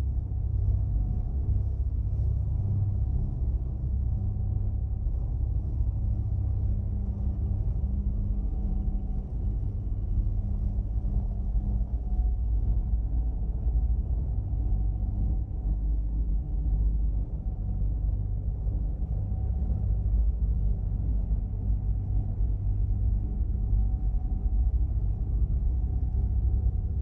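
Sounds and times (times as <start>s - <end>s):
deep rumbling drone: 0.0s - 27.0s.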